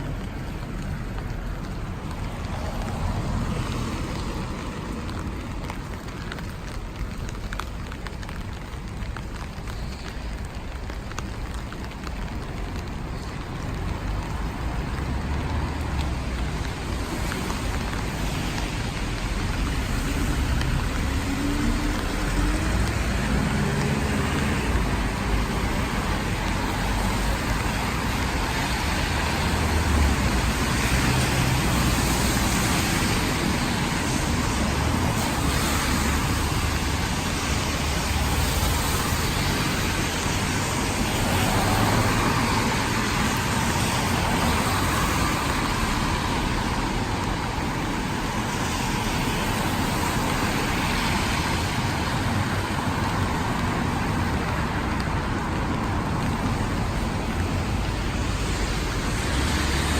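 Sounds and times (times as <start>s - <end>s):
cars passing on wet street: 0.0s - 59.9s
steady rain: 0.0s - 59.9s.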